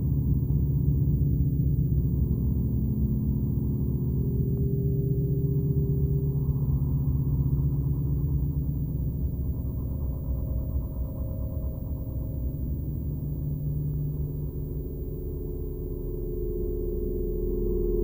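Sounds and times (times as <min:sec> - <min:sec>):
low electronic drone with flutter: 0:00.0 - 0:18.0.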